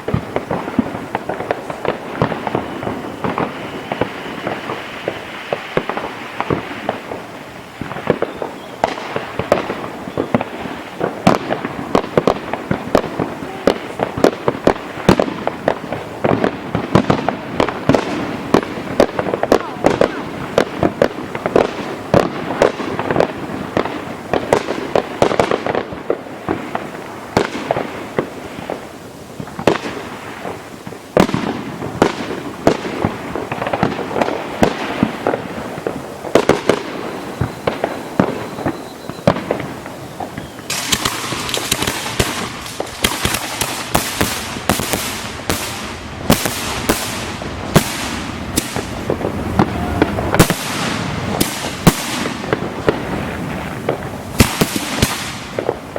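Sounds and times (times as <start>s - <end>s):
fireworks bangs and bursts: 0.0s - 55.9s
sharp firework cracks: 0.0s - 55.9s.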